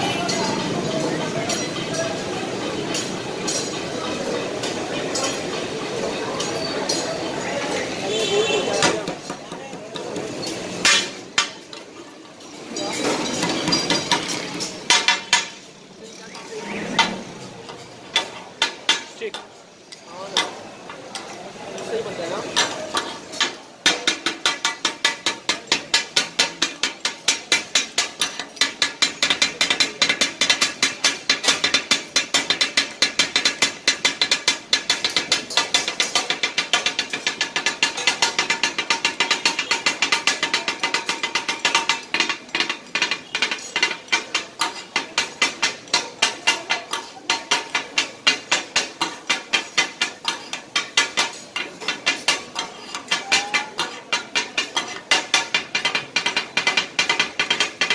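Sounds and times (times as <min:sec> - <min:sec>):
metal spatulas striking griddle: 0:00.0 - 0:57.9.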